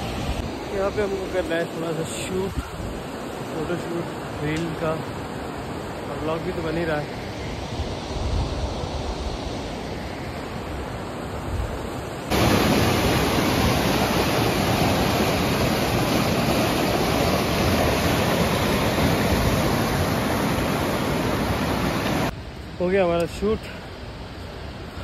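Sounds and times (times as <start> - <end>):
river rushing over boulders: 0.0 - 7.0, 7.9 - 25.0.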